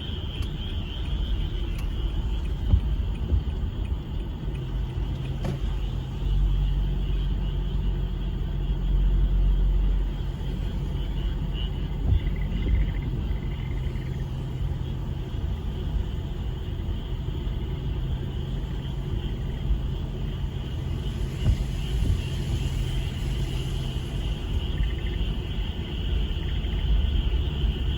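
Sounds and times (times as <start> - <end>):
frogs chorusing: 0.0 - 27.9
low rumble: 0.0 - 27.9.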